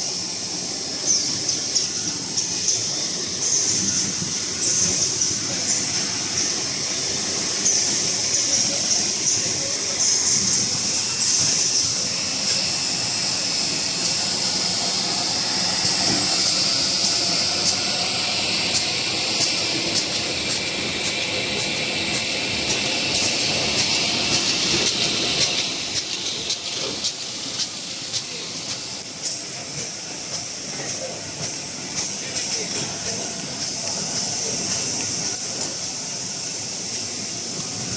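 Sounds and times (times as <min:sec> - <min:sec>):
machinery hissing: 0:00.0 - 0:37.9.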